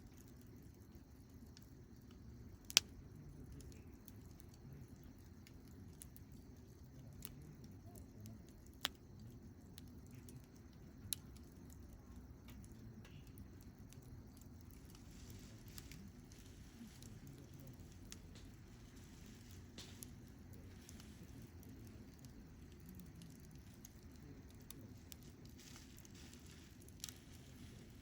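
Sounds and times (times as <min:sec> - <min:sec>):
fire crackles and pops: 0:00.0 - 0:28.0
wood fire rumbling: 0:00.0 - 0:28.0.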